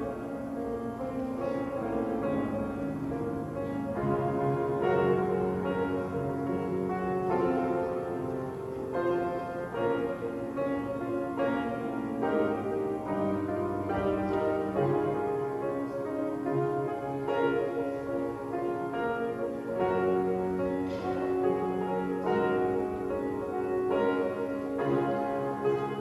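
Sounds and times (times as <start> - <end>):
keyboard chords: 0.0 - 26.0.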